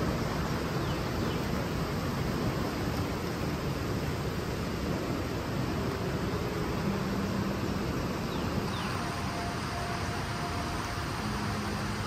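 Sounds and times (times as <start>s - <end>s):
strong wind through trees: 0.0s - 12.0s.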